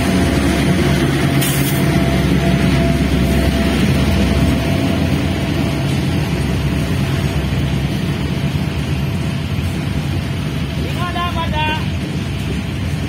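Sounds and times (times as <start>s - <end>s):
diesel locomotives rumbling: 0.0s - 13.0s
wagons rolling on rails: 0.0s - 13.0s.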